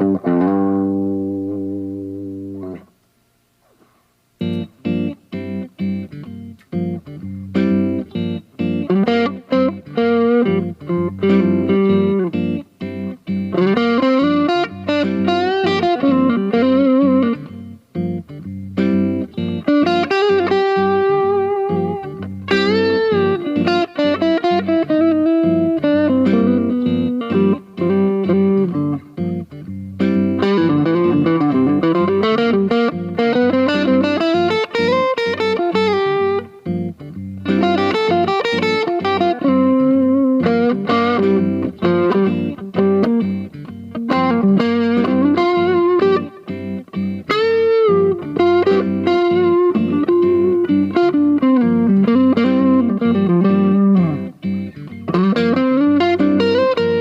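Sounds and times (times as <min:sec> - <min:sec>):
electric guitar lead lines: 0:00.0 - 0:57.0.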